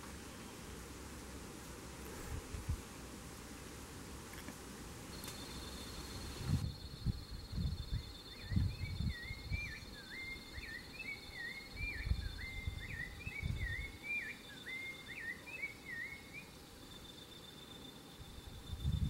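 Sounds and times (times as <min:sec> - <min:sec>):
high insect trill: 0:03.1 - 0:19.0.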